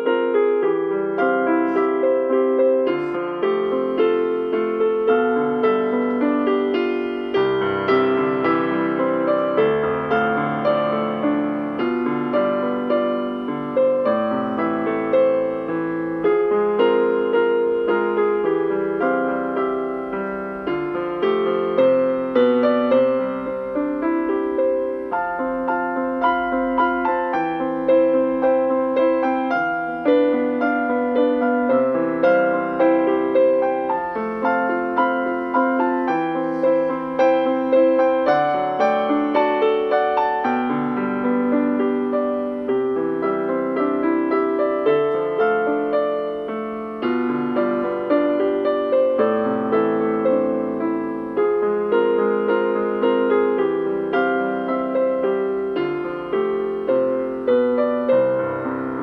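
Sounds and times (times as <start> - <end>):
gentle piano melody: 0.0 - 59.0.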